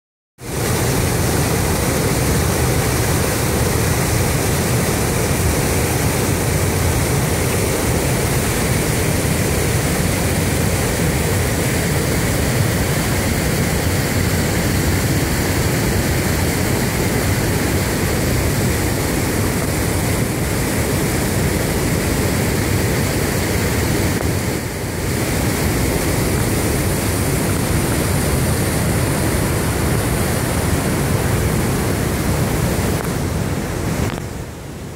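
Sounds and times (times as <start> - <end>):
river rushing over rapids: 0.4 - 34.9.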